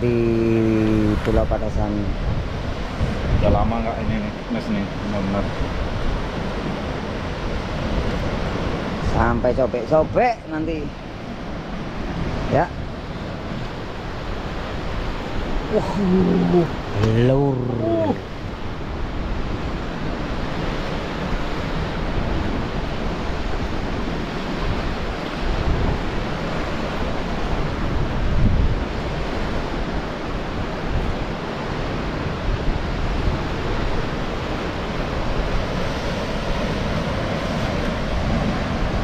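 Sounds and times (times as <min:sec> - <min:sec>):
surf washing on rocky shore: 0:00.0 - 0:39.0
wind rumbling on microphone: 0:00.0 - 0:39.0.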